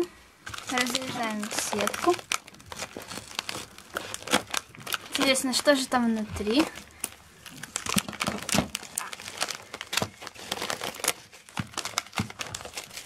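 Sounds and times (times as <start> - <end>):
plastic pouches crinkling: 0.0 - 13.0.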